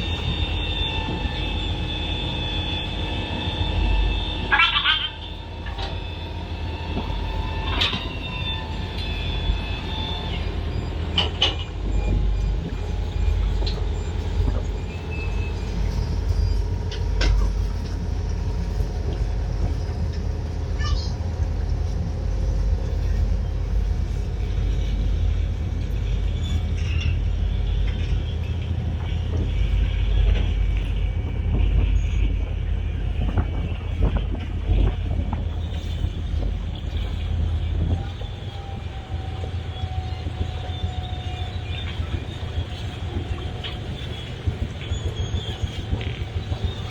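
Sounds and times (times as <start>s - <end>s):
boat engine rumbling: 0.0s - 46.9s.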